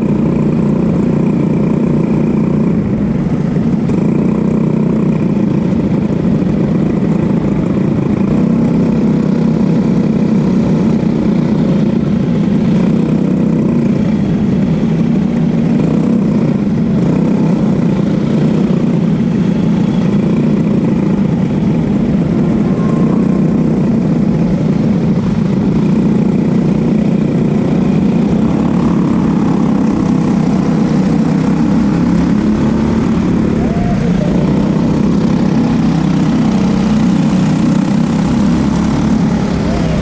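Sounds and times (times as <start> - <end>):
kart engine running: 0.0 - 40.0.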